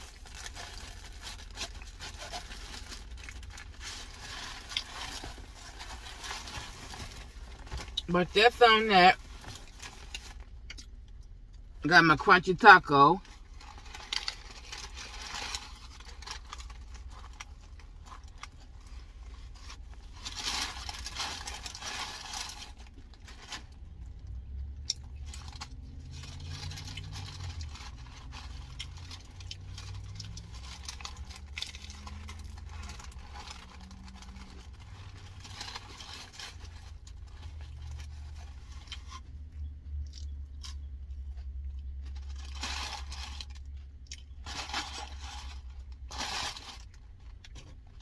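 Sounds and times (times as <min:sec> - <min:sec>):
paper wrapper crinkling: 0:00.0 - 0:10.7, 0:13.2 - 0:24.4, 0:25.0 - 0:39.3, 0:41.4 - 0:43.8, 0:44.4 - 0:48.0.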